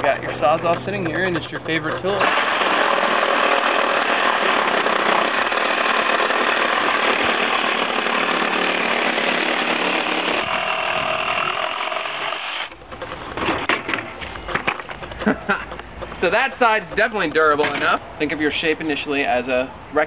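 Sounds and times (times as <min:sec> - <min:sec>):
reciprocating saw cutting wood: 0:00.0 - 0:13.4, 0:14.2 - 0:18.6.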